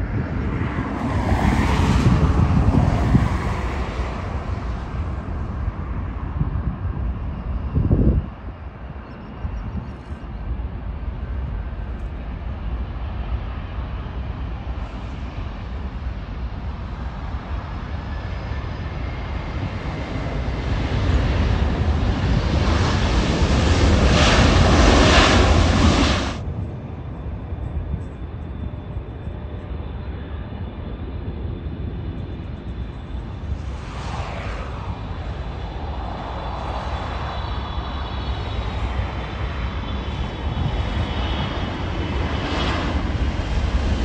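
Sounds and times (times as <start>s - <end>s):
jet engines running: 0.0s - 44.0s
low jet rumble: 0.0s - 44.0s.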